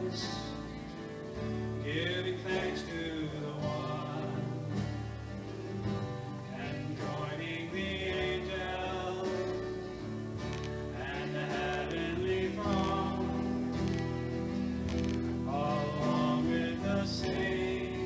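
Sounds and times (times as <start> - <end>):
acoustic and electric guitars: 0.0 - 18.0
voices singing melody: 0.0 - 18.0.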